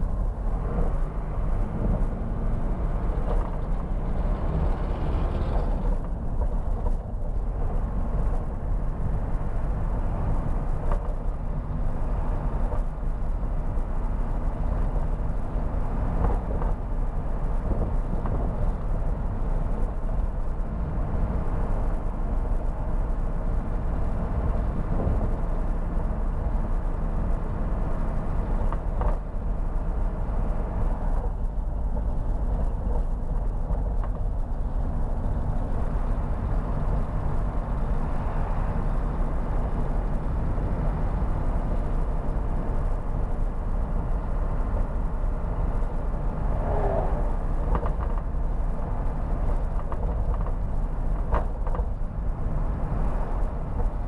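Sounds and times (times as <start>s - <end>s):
tyre and road noise: 0.0s - 54.0s.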